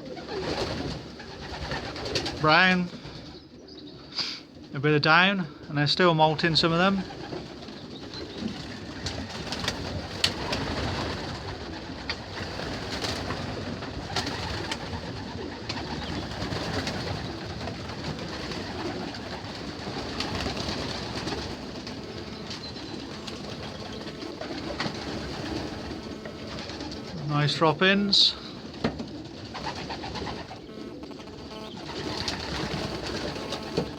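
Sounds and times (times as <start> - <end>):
pigeons cooing: 0.0 - 33.9.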